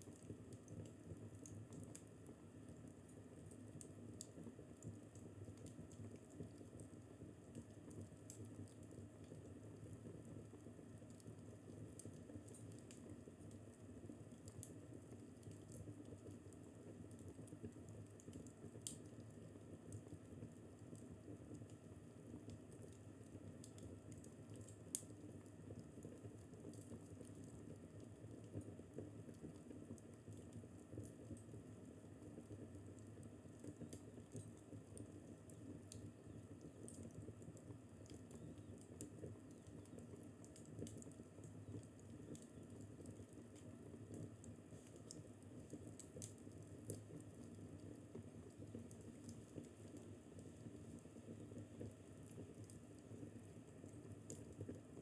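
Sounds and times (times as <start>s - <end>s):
fireplace crackling: 0.1s - 55.0s.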